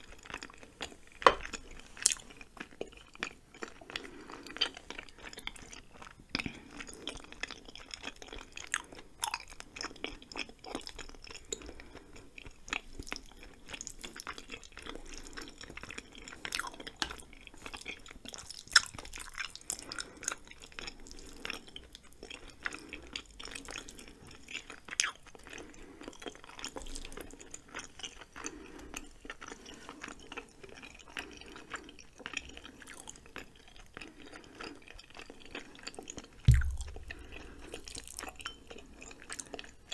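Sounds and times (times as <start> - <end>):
close chewing with mouth clicks: 0.0 - 39.9.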